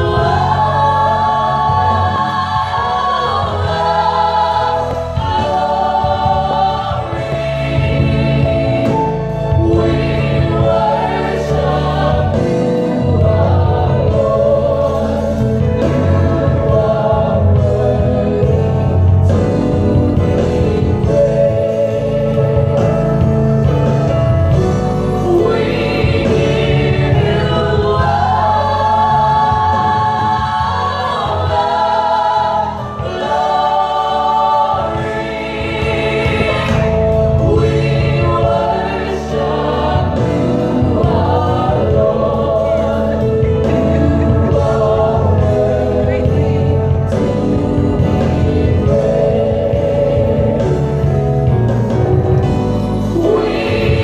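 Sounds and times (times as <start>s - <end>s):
gospel choir singing in harmony: 0.0s - 54.0s
live band accompaniment: 0.0s - 54.0s.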